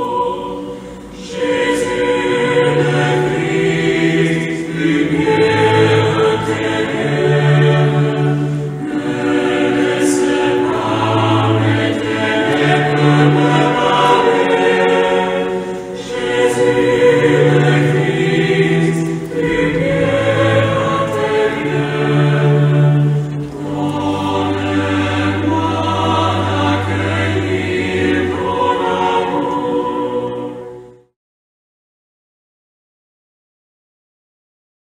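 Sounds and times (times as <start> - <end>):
choir singing a slow chant: 0.0 - 31.1.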